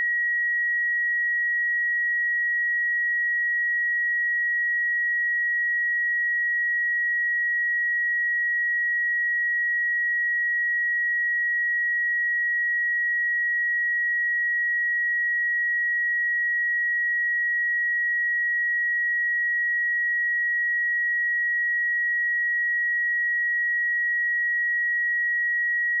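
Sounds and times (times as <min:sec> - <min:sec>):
sine-wave test tone: 0:00.0 - 0:26.0.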